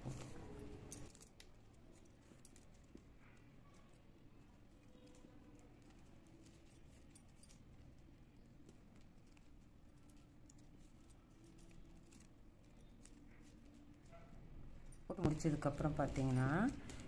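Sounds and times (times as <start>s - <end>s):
plastic wire clicking and rubbing: 0.0s - 17.0s.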